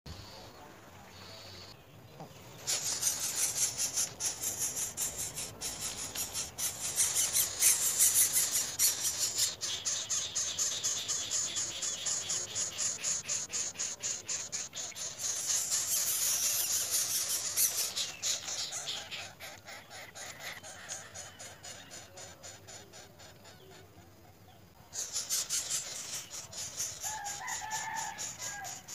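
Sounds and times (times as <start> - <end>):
mice squealing shrilly: 2.6 - 24.0, 24.9 - 28.9.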